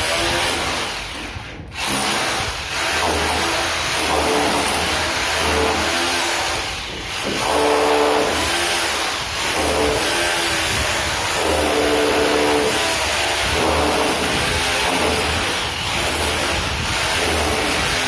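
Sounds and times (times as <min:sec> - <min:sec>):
hammer drill on brick: 0:00.0 - 0:18.0.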